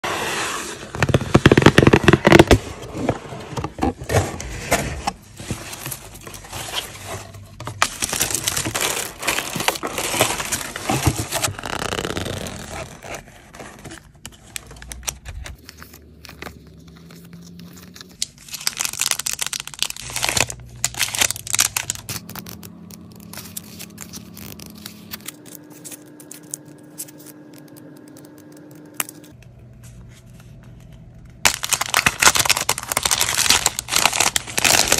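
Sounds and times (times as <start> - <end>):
sticker sheets rustling: 0.3 - 30.9
paper packing wrap crinkling: 0.9 - 34.9.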